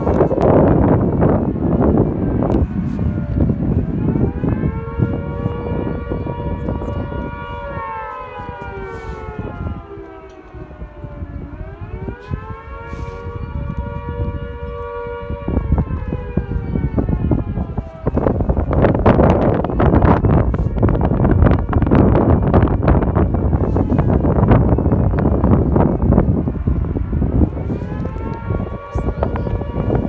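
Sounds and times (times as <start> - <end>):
dual-tone air raid siren: 0.0 - 30.0
wind buffeting microphone: 0.0 - 30.0.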